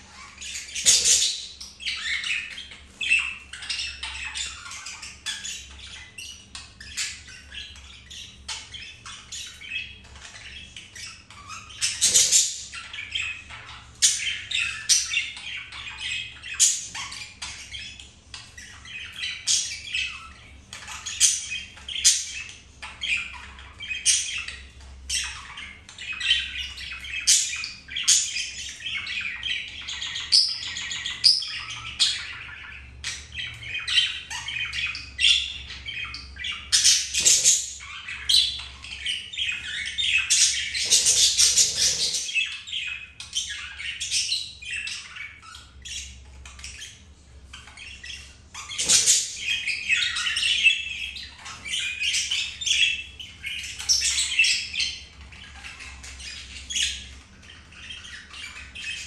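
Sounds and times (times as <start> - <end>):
budgies chattering and chirping: 0.0 - 59.0.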